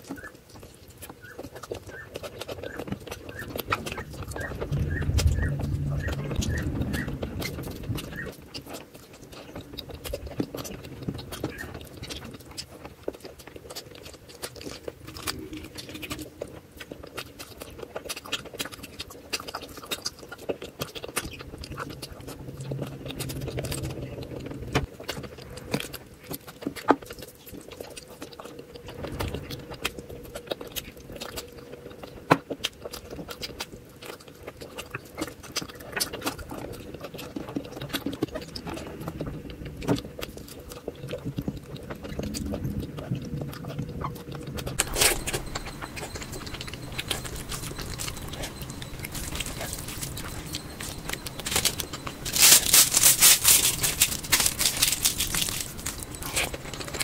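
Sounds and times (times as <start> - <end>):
crackly crunchy noise: 0.0 - 57.0
wet chewing: 0.0 - 57.0.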